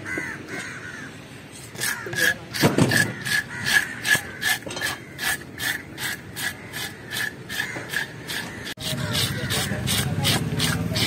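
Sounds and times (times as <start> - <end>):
knife scraping fish scales: 1.7 - 11.0.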